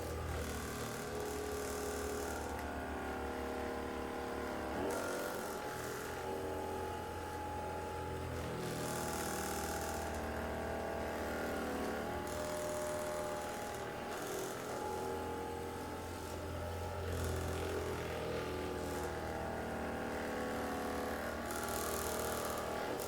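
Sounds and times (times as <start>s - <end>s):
electric massager humming: 0.0s - 23.0s.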